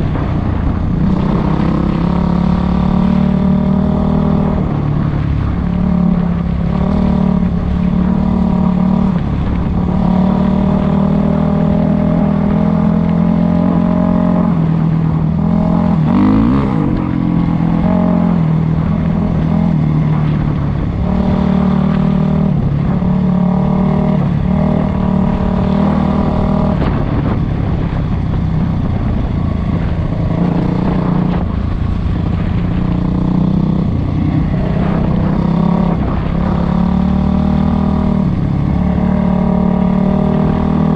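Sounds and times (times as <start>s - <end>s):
dirt bike engine revving: 1.0s - 27.4s, 32.3s - 40.9s.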